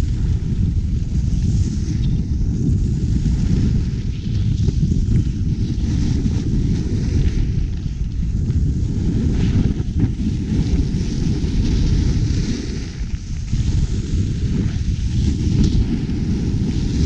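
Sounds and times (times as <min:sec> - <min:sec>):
skis carving on snow: 0:00.0 - 0:17.0
wind buffeting microphone: 0:00.0 - 0:17.0.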